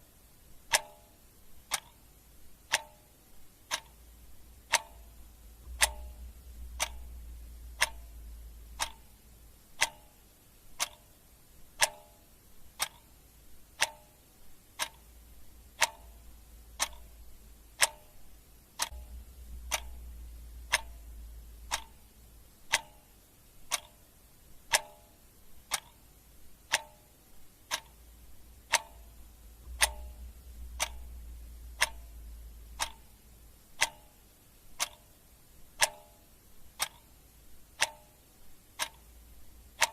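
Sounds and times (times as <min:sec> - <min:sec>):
clock ticking: 0:00.0 - 0:39.9
faint low hum: 0:00.0 - 0:39.9.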